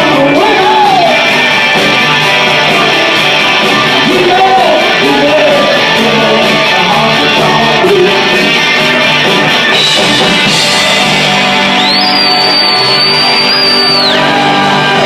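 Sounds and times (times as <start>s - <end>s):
live rock band with guitar: 0.0s - 15.0s.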